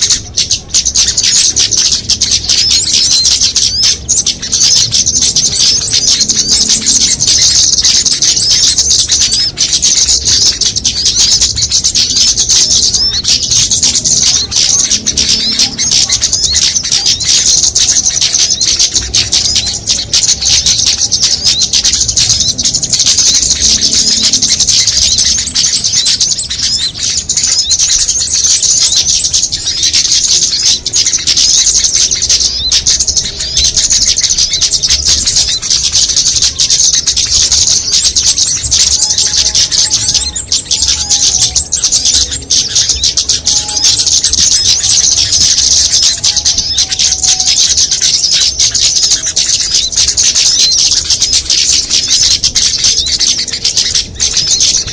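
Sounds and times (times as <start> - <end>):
lower whistled bird notes: 0.0 - 54.9
songbirds chattering: 0.0 - 54.9.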